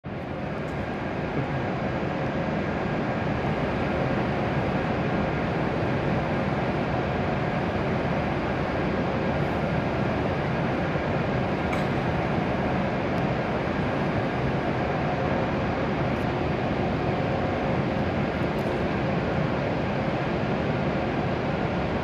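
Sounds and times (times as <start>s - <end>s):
train hum and rumble: 0.1s - 22.0s.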